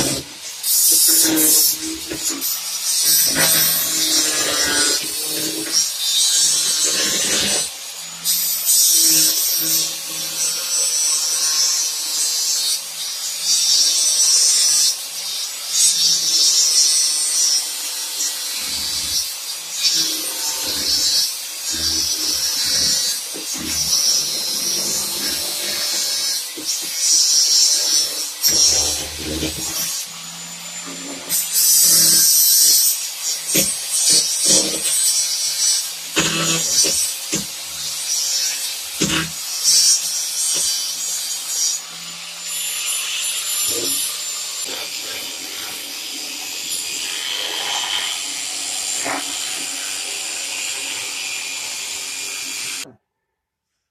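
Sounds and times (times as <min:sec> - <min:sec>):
power tool cutting metal: 0:00.0 - 0:53.0.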